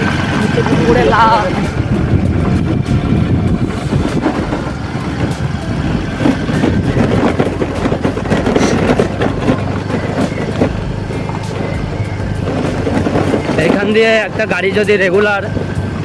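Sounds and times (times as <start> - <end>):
motorcycle engine running: 0.0 - 16.0
wind buffeting on microphone: 0.0 - 16.0.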